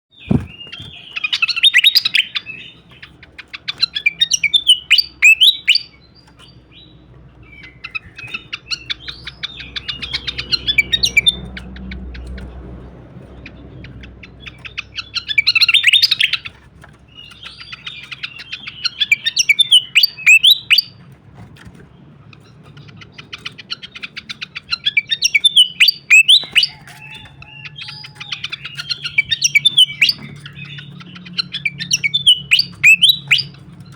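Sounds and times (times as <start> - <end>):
songbird chattering and twittering: 0.1 - 33.9.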